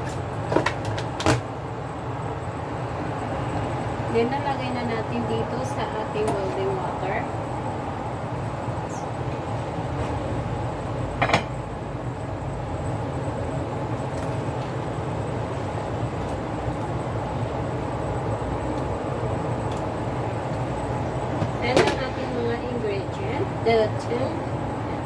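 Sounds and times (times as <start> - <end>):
pot of water boiling: 0.0 - 25.0.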